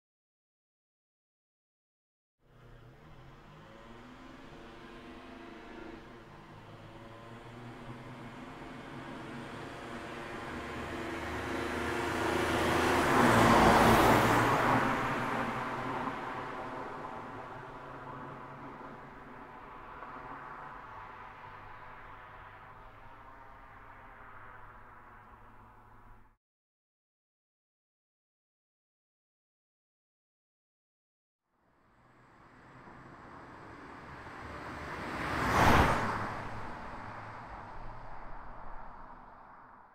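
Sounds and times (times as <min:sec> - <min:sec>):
car passing by: 0:02.5 - 0:26.4, 0:31.7 - 0:39.9.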